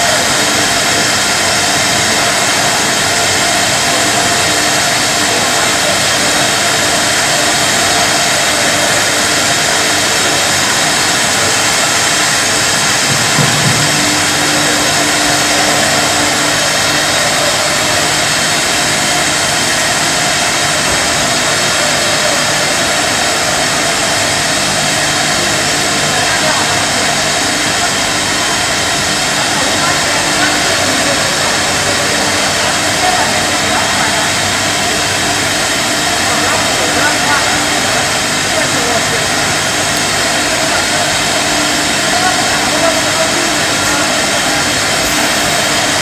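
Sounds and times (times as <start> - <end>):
machinery rushing drone: 0.0 - 46.0.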